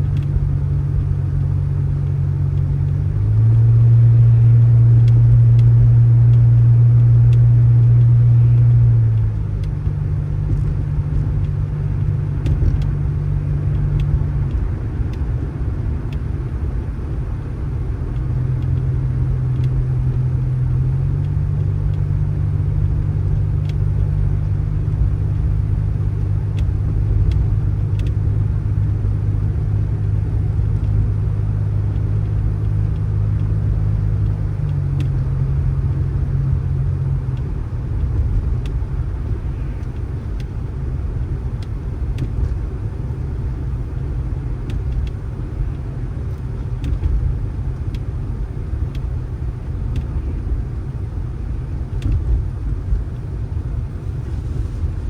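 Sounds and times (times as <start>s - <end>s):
motor vehicle droning: 0.0s - 55.0s.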